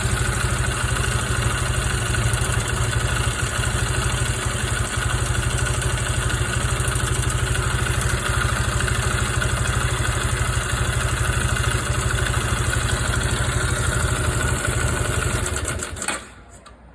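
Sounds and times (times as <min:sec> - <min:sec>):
engine idling with mechanical clatter: 0:00.0 - 0:16.9.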